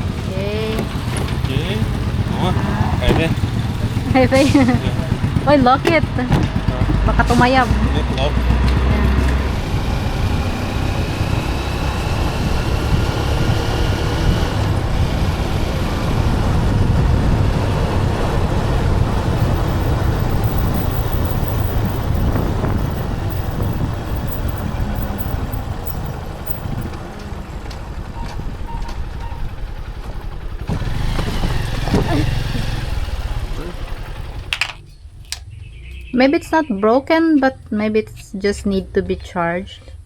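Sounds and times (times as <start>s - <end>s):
road and wind noise: 0.0s - 40.0s
vehicle engine rumble: 0.0s - 40.0s.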